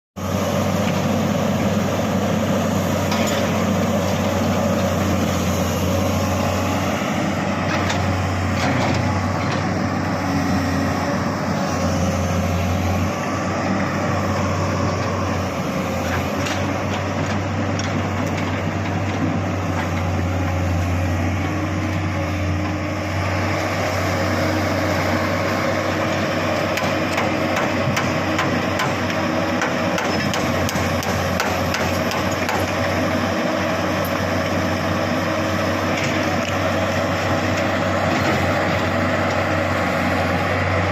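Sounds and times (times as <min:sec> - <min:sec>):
excavator diesel engine droning: 0:00.2 - 0:40.9.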